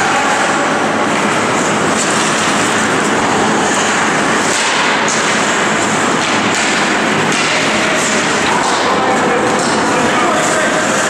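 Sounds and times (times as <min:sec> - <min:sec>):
arena noise: 0:00.0 - 0:11.0.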